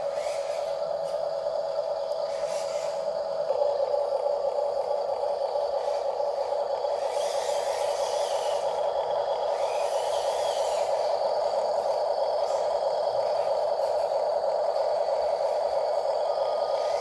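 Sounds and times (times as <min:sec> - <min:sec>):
steady hiss: 0:00.0 - 0:17.0
toy truck motor whining: 0:00.0 - 0:17.0.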